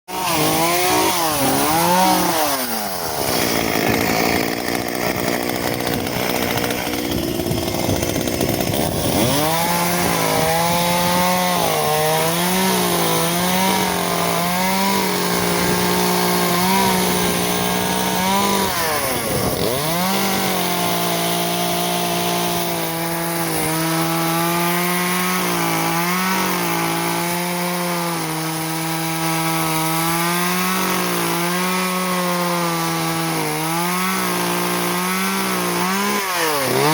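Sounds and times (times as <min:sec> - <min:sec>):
chainsaw cutting at high revs: 0:00.1 - 0:36.9.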